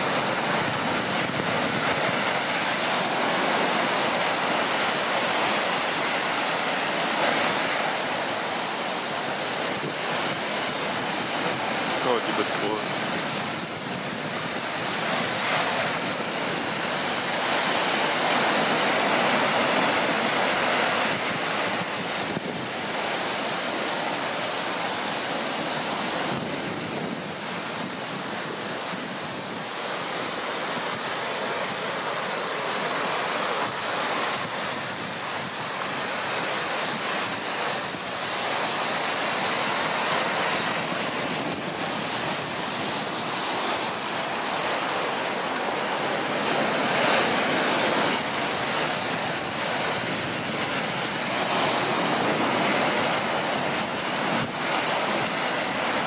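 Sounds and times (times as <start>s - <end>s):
surf breaking on rocks: 0.0s - 56.0s.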